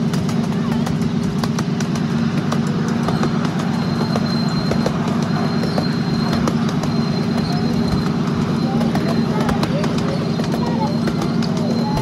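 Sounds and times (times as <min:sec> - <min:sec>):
small locomotive engine running: 0:00.0 - 0:12.0
wheels clicking over rail joints: 0:00.0 - 0:12.0.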